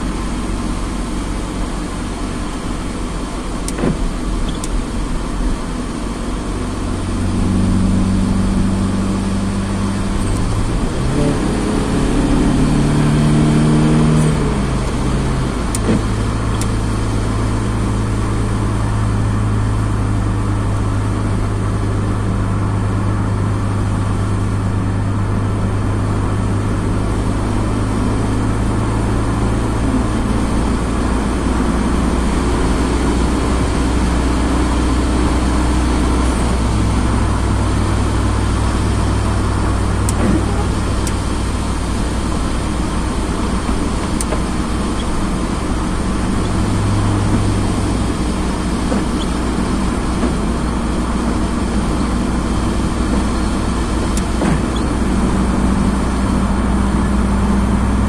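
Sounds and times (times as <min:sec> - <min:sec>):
car engine accelerating: 0:00.0 - 0:58.0
tyres on wet road: 0:00.0 - 0:58.0.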